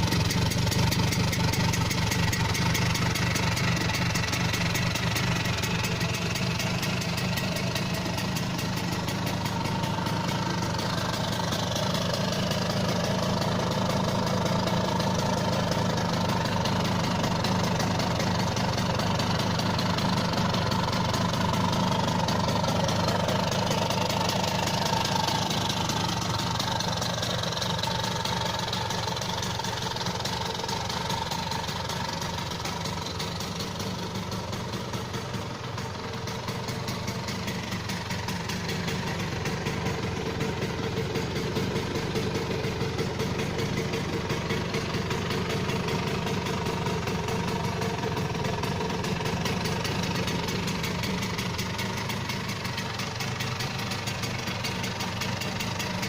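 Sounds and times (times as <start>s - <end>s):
scooter engine idling: 0.0s - 56.0s.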